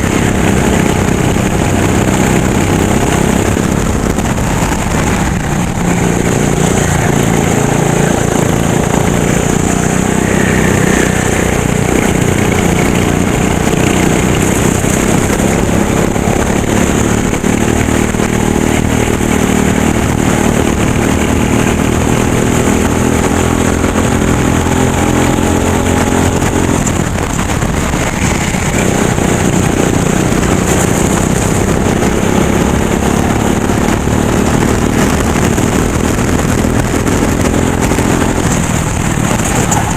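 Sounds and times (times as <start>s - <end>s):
go-kart engine at full speed: 0.0s - 39.9s.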